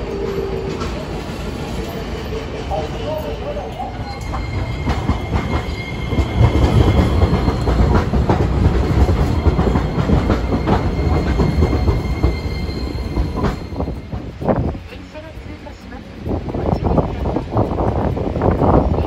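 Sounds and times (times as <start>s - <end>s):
tram rumbling past: 0.0s - 19.0s
wheels clicking over rail joints: 3.1s - 19.0s.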